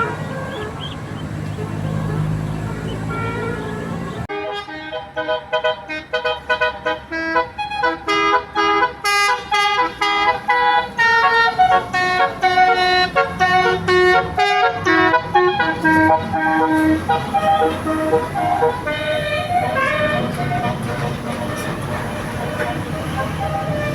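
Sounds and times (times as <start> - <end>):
multi-tone bus horn tune: 0.0 - 23.9.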